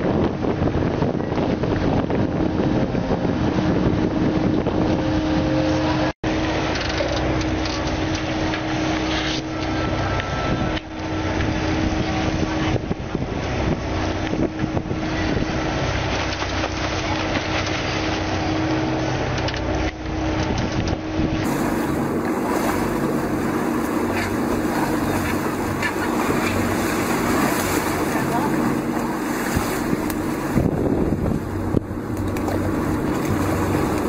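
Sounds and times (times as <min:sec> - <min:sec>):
boat engine running: 0:00.0 - 0:34.0
water rushing along hull: 0:00.0 - 0:34.0
wind buffeting microphone: 0:00.0 - 0:34.0.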